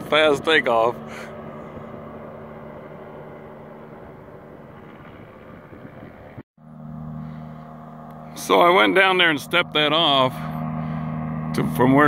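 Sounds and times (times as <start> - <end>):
light plane engine droning: 0.0 - 12.0.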